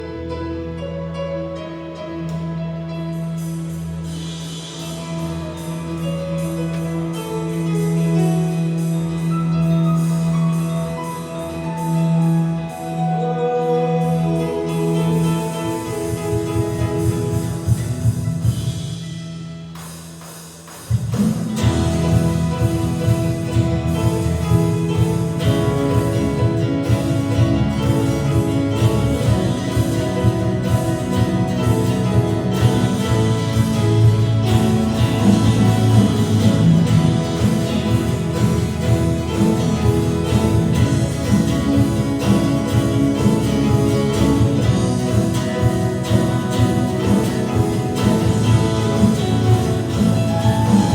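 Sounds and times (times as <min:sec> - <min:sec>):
band playing live: 0:00.0 - 0:50.9.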